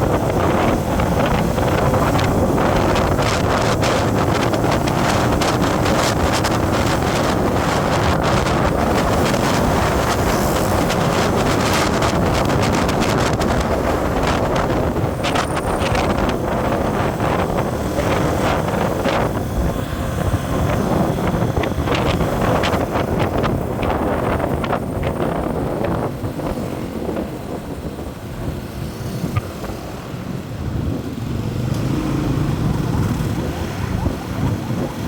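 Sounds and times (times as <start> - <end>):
road vehicle driving: 0.0 - 35.0
wind buffeting microphone: 0.0 - 35.0.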